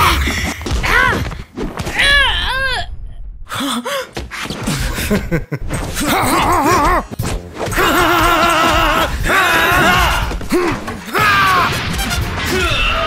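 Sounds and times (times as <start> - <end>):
fighting cries and grunts: 0.0 - 13.0.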